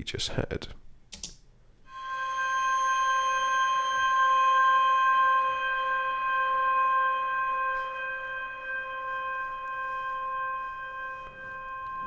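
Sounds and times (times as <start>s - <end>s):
reverberant glockenspiel chord: 1.9s - 12.0s.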